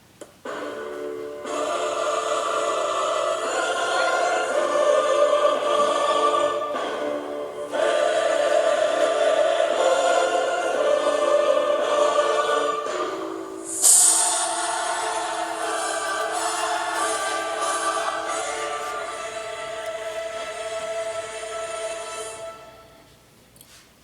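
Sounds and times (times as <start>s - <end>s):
choir singing held chords: 0.4s - 23.1s.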